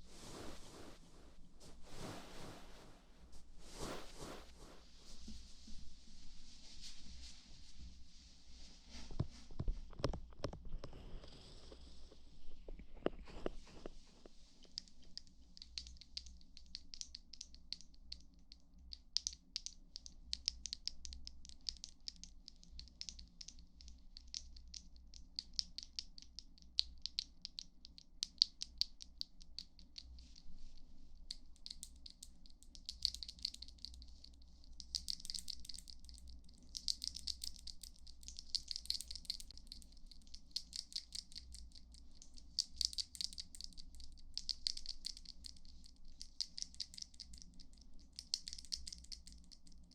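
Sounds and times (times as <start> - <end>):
soft crisp clicks and crackles: 8.8 - 49.9.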